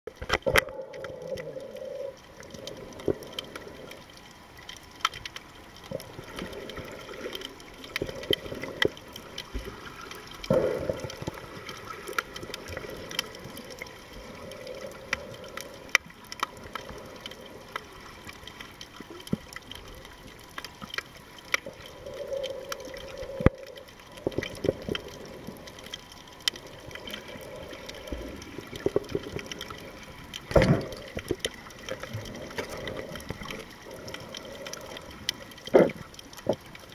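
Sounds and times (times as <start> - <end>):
sharp clicks and pops: 0.1 - 14.0, 14.6 - 36.9
muffled underwater sloshing: 0.1 - 36.9.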